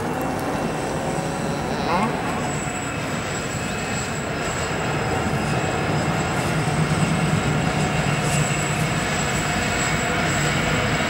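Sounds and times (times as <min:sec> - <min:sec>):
freight wagons rumbling on rails: 0:00.0 - 0:11.0.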